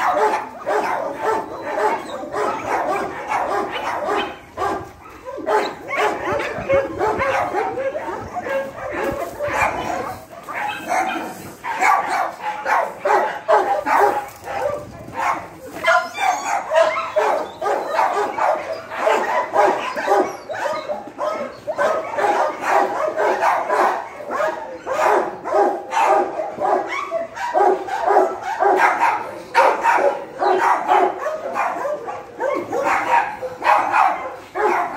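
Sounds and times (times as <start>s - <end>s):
many dogs barking: 0.0s - 34.9s.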